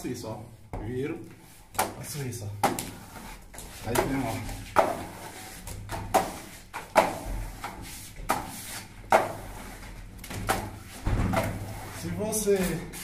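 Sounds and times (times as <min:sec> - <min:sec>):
plastering float scraping plaster: 0:01.9 - 0:13.0.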